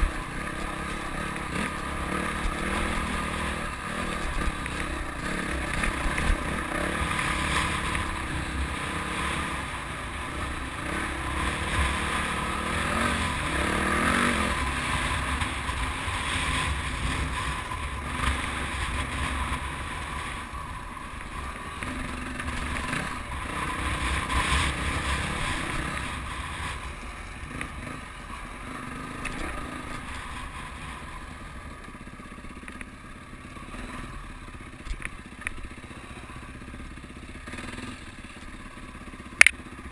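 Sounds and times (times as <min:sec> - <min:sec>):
dirt bike engine revving: 0:00.0 - 0:31.5, 0:36.1 - 0:38.4.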